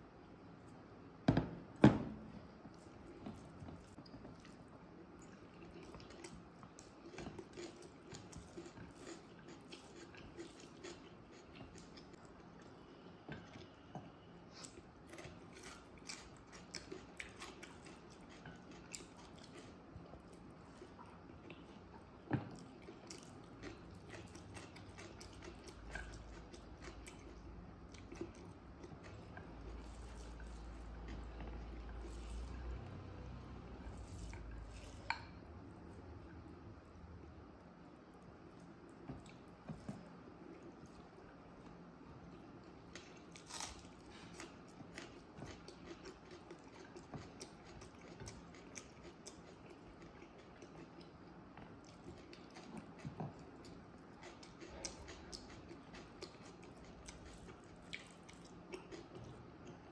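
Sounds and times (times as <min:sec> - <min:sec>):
chewing food: 0:02.6 - 0:37.0, 0:38.2 - 0:59.9.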